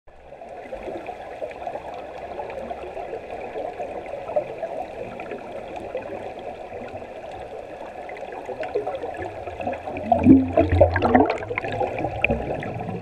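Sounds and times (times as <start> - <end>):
underwater bubbling and crackling: 0.1 - 13.0.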